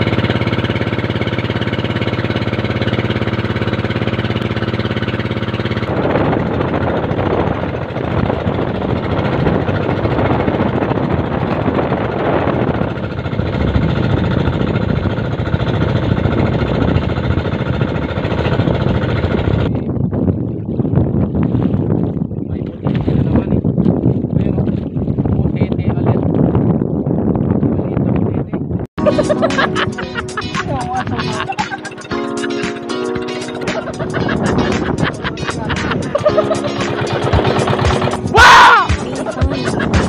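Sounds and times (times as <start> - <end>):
wind gusting on microphone: 0.0 - 29.4, 33.8 - 40.0
boat engine running: 0.0 - 40.0.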